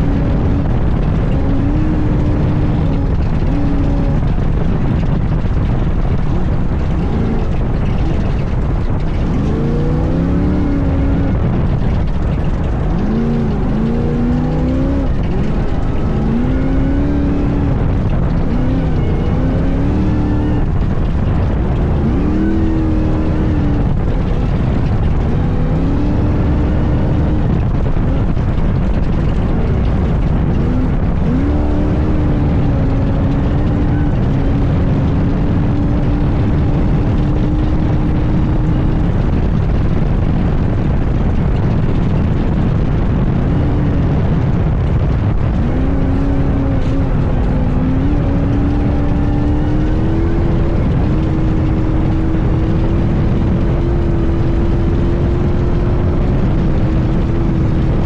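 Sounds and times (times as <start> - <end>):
race buggy engine revving: 0.0 - 58.0.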